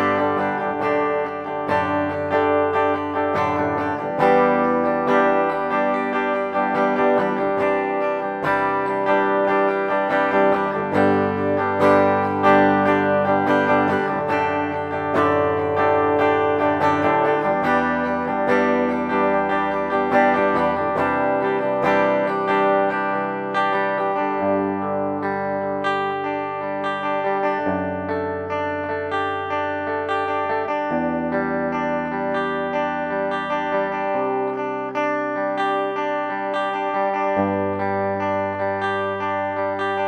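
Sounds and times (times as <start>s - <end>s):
clean electric guitar chords: 0.0s - 40.0s.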